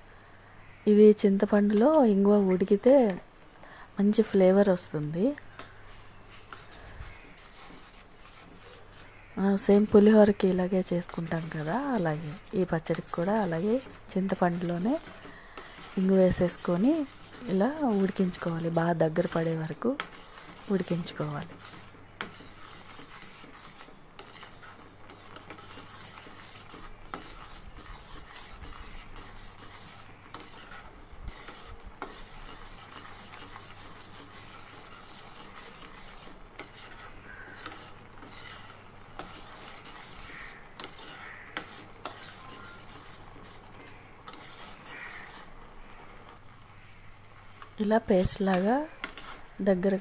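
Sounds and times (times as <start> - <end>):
spoon stirring and scraping pan: 4.1 - 50.0.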